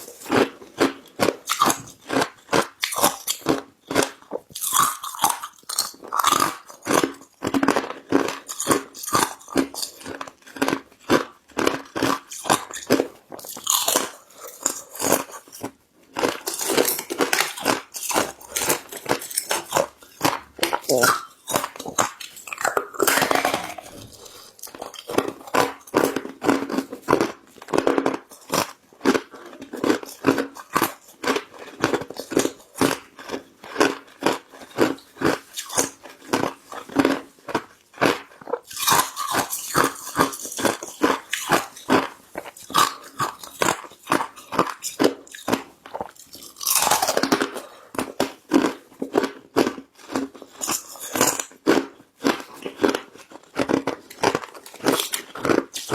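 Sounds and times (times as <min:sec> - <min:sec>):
ice crunching in mouth: 0:00.0 - 0:55.9.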